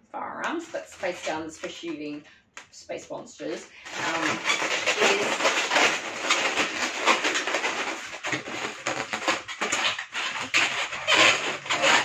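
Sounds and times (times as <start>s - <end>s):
balloon squeaking and rubbing: 0.5s - 2.2s, 3.4s - 12.0s.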